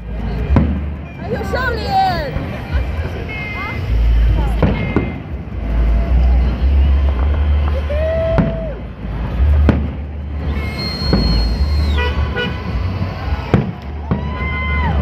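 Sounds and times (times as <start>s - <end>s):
horns tooting: 0.0s - 15.0s
fireworks bursting with bangs: 0.2s - 15.0s.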